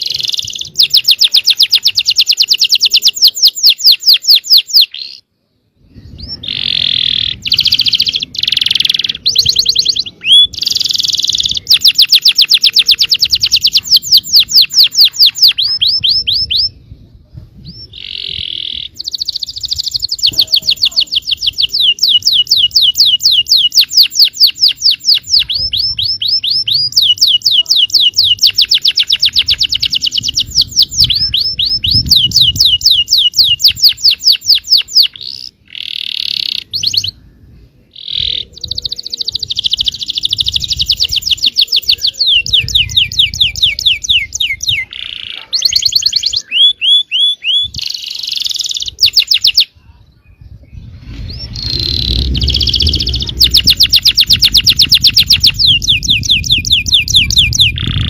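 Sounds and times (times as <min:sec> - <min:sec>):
canary singing trills: 0:00.0 - 0:17.0, 0:17.6 - 0:58.0.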